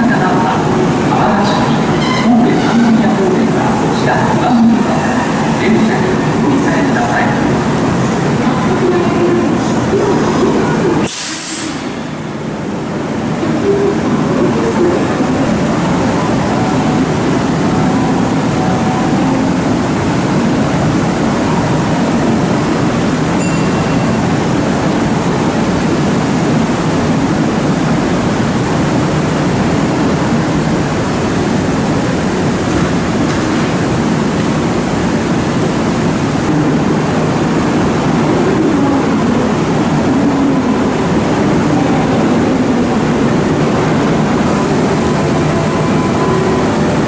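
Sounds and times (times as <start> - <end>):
station ambience: 0.0 - 47.0
stopped electric train equipment running: 0.0 - 47.0.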